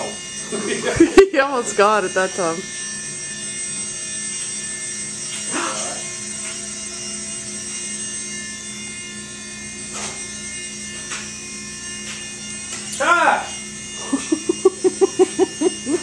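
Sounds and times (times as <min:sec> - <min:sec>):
rc helicopter motor whining: 0:00.0 - 0:16.0.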